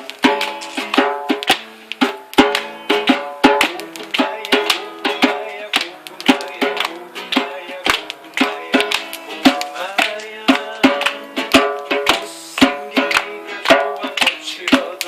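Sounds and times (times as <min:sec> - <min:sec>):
acoustic guitar strumming: 0:00.0 - 0:15.0
djembe hits: 0:00.2 - 0:15.0.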